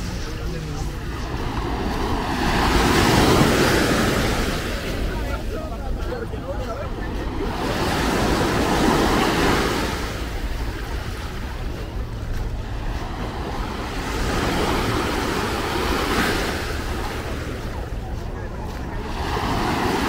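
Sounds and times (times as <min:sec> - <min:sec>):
small waves washing on sand: 0:00.0 - 0:20.0.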